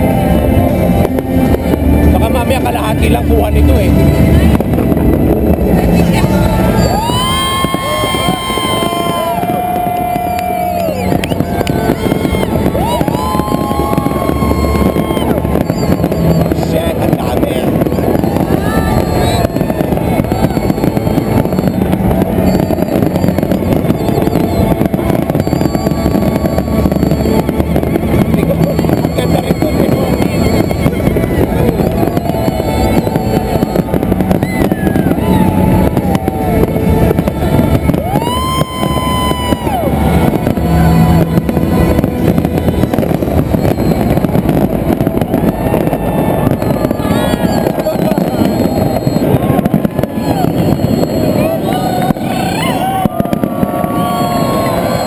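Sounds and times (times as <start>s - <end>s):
fireworks bangs and crackling: 0.0s - 55.0s
high held tone: 0.0s - 55.0s
faint wavering whistles: 6.4s - 55.0s.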